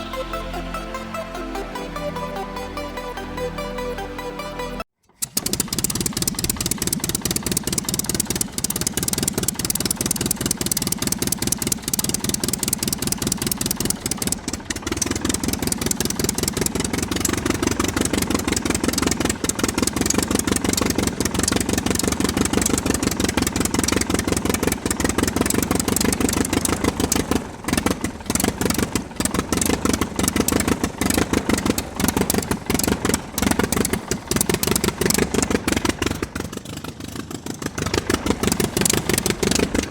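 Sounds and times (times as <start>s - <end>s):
miniature engine chugging: 5.0s - 39.9s.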